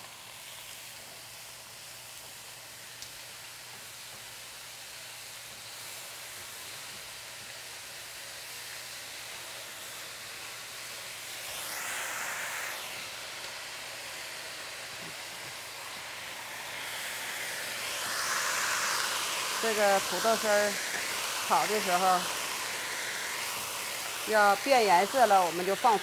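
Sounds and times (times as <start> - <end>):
potato sizzling in oil: 0.0 - 26.0.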